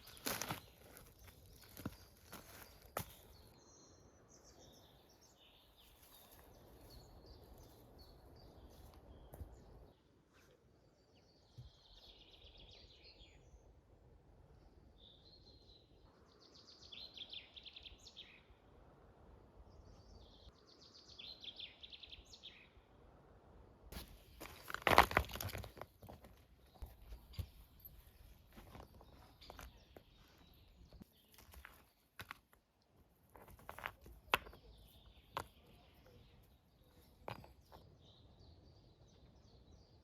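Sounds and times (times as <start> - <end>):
faint songbird song: 0.0 - 23.4, 24.0 - 40.0.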